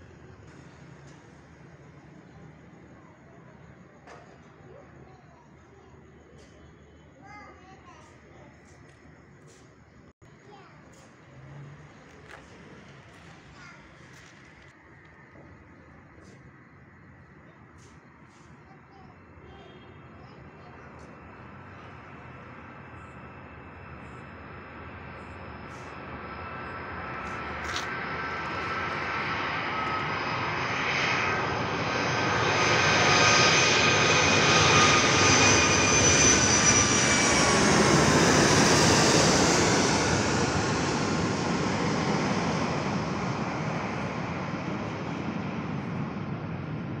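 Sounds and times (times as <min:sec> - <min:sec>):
jet aircraft flying over: 0:00.0 - 0:03.0, 0:11.1 - 0:47.0.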